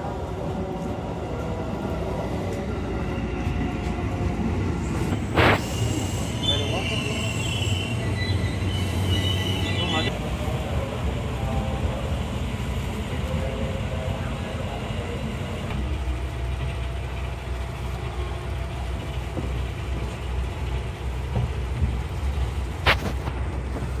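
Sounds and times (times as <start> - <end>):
electric train rumble: 0.0 - 24.0.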